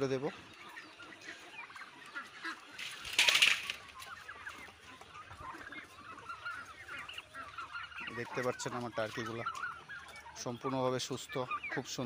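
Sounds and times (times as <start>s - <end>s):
ducks calling softly: 0.0s - 12.0s.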